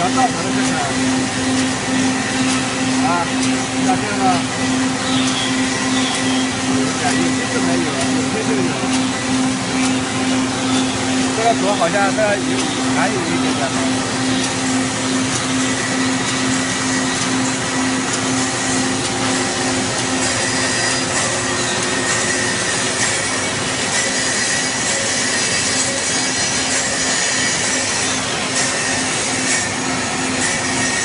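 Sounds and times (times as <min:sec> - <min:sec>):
planer cutting wood: 0:00.0 - 0:31.0
steady low hum: 0:00.0 - 0:31.0.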